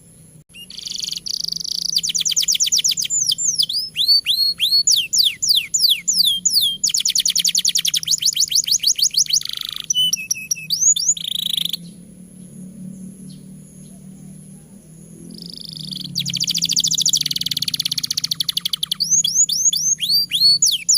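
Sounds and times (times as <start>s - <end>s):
canary singing: 0.5s - 20.9s.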